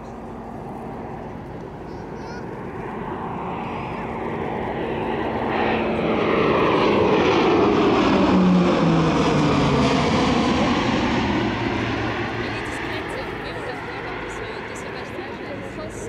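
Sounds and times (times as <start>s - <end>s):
turboprop aircraft flyby: 0.0s - 16.0s.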